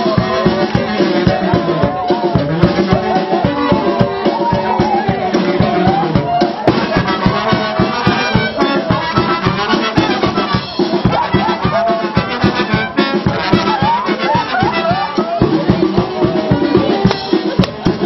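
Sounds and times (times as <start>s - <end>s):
brass band playing: 0.0s - 18.0s
quick drum beat: 0.0s - 18.0s.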